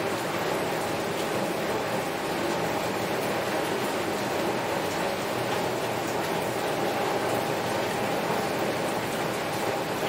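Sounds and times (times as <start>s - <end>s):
heavy rain on a window: 0.0s - 10.0s.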